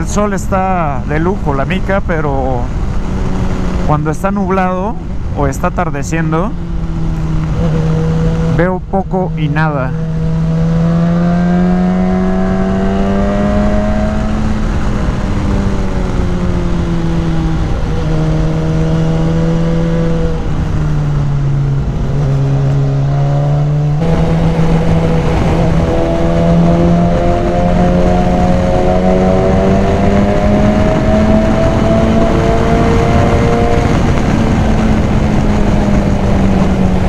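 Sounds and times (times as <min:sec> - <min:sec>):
wind rushing: 0:00.0 - 0:37.0
motorcycle engine running: 0:02.4 - 0:37.0.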